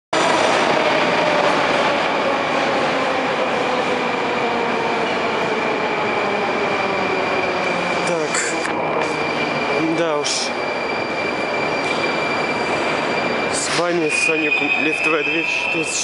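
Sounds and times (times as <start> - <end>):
metro train rumbling: 0.1 - 16.0.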